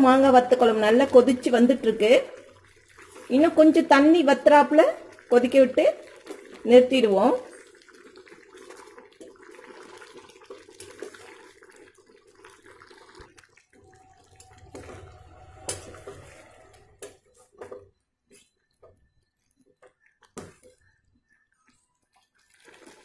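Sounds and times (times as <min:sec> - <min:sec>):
curry bubbling and stirring: 0:00.0 - 0:23.0.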